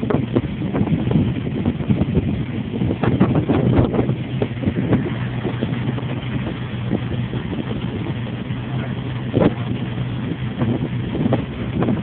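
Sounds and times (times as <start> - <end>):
boat engine humming: 0.0 - 12.0
water rushing along hull: 0.0 - 12.0
wind on microphone: 0.0 - 12.0.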